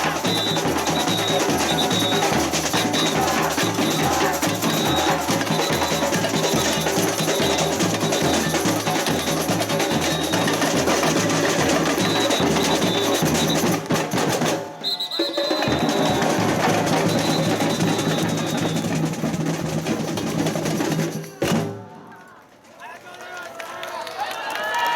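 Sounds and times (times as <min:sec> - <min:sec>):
sharp hand percussion: 0:00.0 - 0:21.8
samba percussion band: 0:00.0 - 0:22.2.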